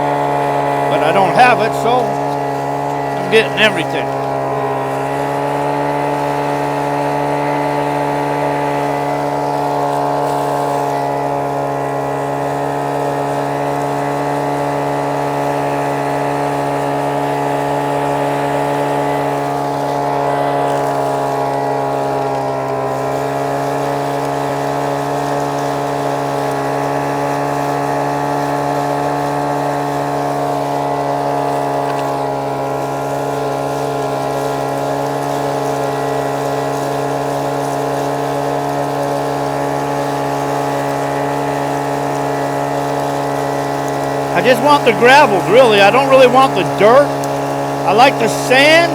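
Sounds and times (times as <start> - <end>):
small gasoline engine running: 4.1 - 47.9.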